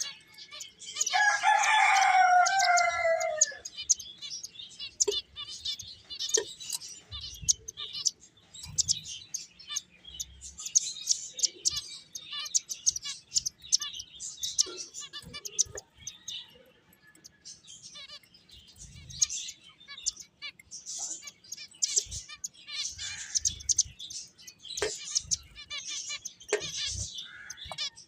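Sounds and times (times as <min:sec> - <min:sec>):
finches chirping: 0:00.0 - 0:28.0.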